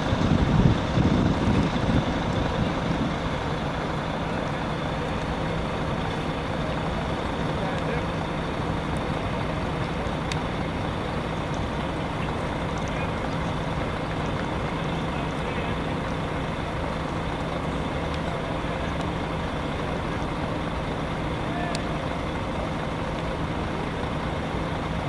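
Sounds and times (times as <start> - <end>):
constant low hum: 0.0 - 25.0
rumbling wash: 0.0 - 25.0.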